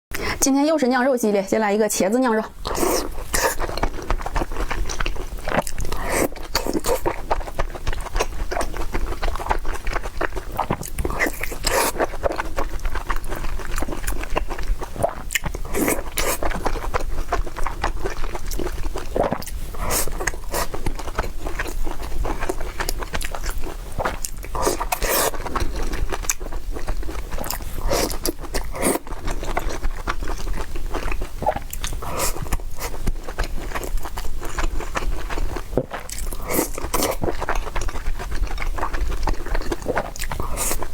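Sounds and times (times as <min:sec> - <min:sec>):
person chewing food: 0:02.4 - 0:40.9.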